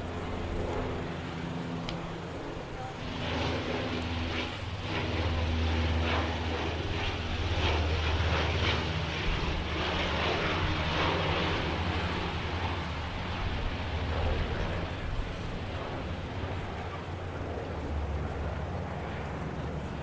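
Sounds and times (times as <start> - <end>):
propeller engines humming: 0.0 - 20.0.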